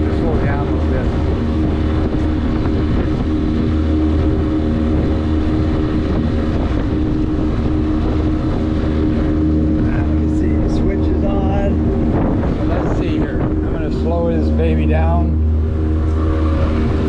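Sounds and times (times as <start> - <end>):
outboard motor running: 0.0 - 17.0
wind on microphone: 0.0 - 17.0.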